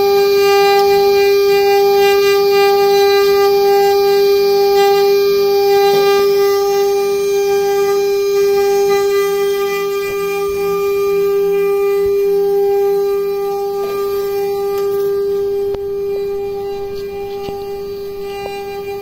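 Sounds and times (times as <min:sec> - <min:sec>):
router spindle high whine: 0:00.0 - 0:19.0.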